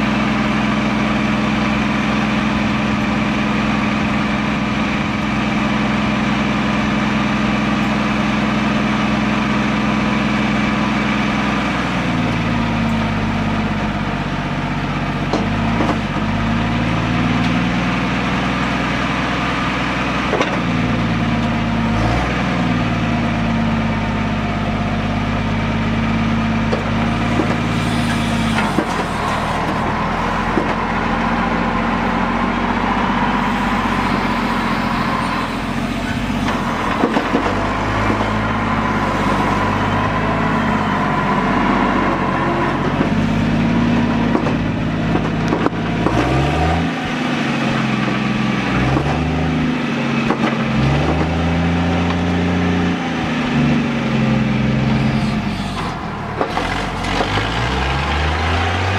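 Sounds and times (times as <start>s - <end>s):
engine revving: 0.0s - 58.9s
large vehicle engine running: 0.0s - 58.9s.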